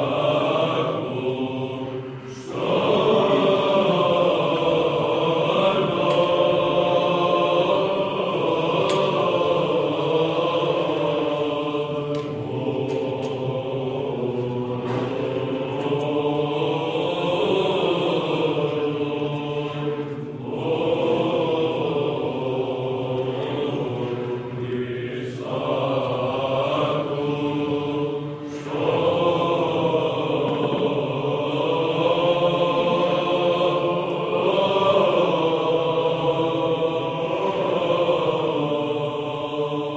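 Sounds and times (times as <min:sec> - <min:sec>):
group of voices chanting: 0:00.0 - 0:39.9
low vocal drone: 0:00.0 - 0:39.9.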